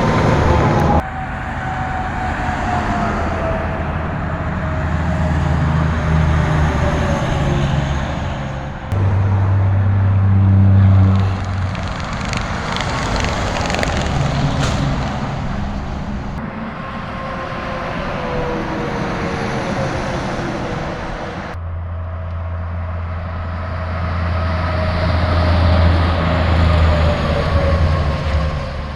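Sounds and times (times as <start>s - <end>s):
truck diesel engines humming: 0.0s - 28.9s
tyre and road noise: 0.0s - 28.9s.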